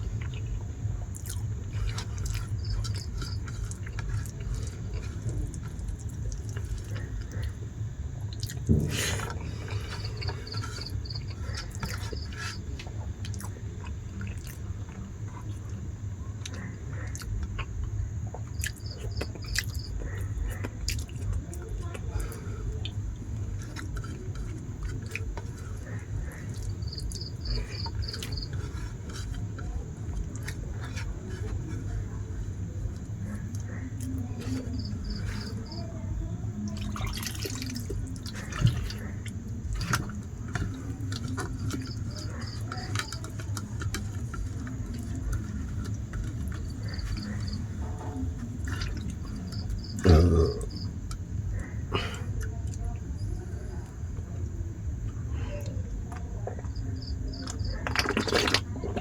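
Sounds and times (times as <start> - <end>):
cricket chirping: 0.0 - 59.0
steady low hum: 0.0 - 59.0
wet mixing and chewing: 0.0 - 59.0.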